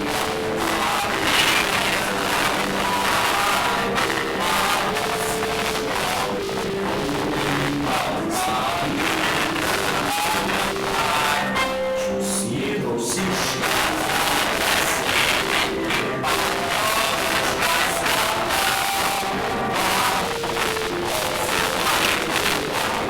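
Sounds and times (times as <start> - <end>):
several voices singing together: 0.0 - 23.0.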